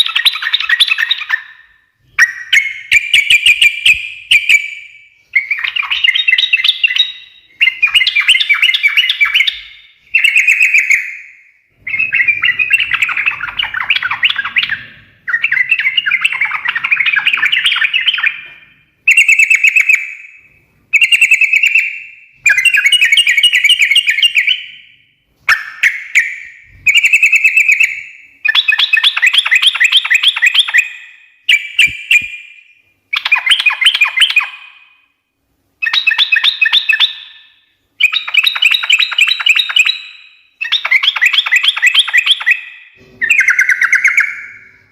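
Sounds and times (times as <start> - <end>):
bird chattering song: 0.0 - 34.9, 35.8 - 44.9.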